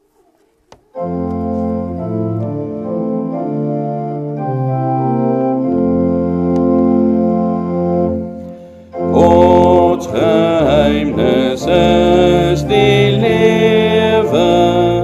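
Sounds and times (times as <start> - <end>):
organ playing hymn chords: 0.9 - 15.0.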